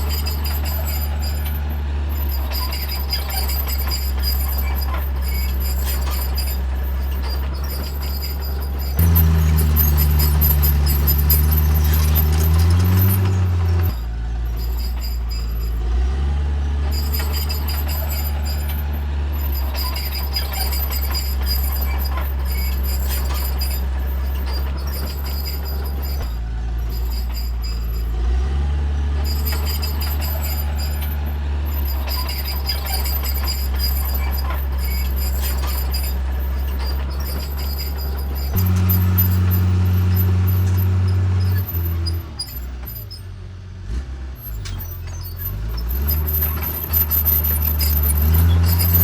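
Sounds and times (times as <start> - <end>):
high-pitched squeal: 0.0 - 43.2, 44.6 - 49.0
bulldozer diesel engine under load: 0.0 - 49.0.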